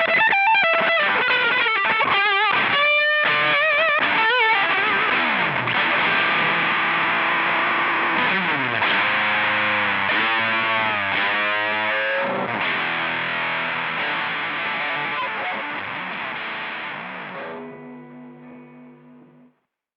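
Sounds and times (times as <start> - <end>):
fuzzy distorted electric guitar: 0.0 - 19.6.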